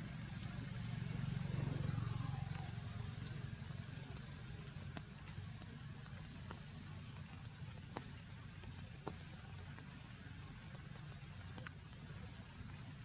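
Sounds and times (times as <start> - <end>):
steady rain falling: 0.0 - 13.0
drip taps: 2.0 - 13.0.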